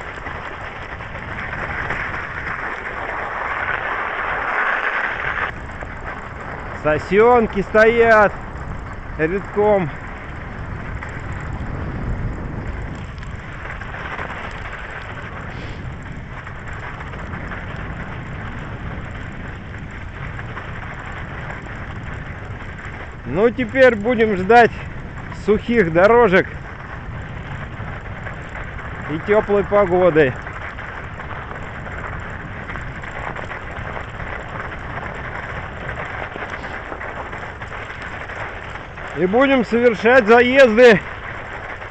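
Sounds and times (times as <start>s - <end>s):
bike tyres crackling on frozen ground: 0.0s - 41.9s
wind buffeting microphone: 0.0s - 41.9s.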